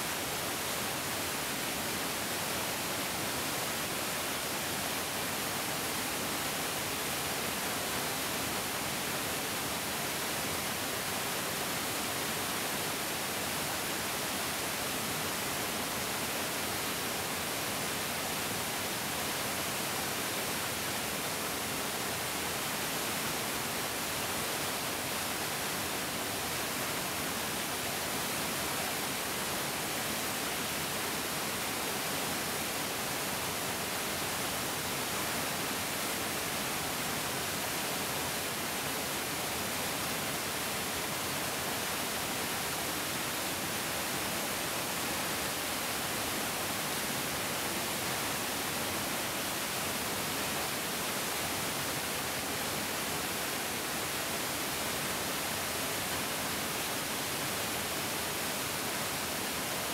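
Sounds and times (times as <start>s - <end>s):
mountain stream rushing: 0.0s - 59.9s.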